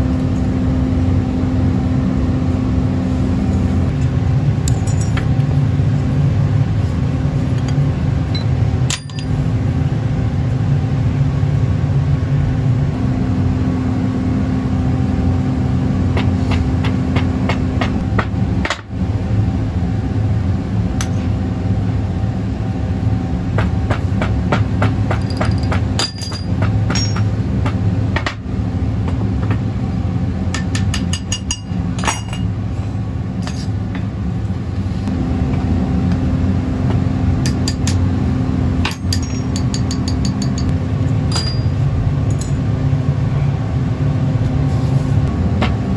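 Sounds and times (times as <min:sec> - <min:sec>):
low machine drone: 0:00.0 - 0:45.9.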